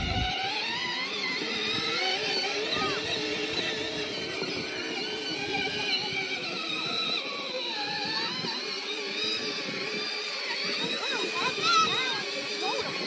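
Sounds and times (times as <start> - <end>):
toy truck electric motor whining: 0.0 - 13.0.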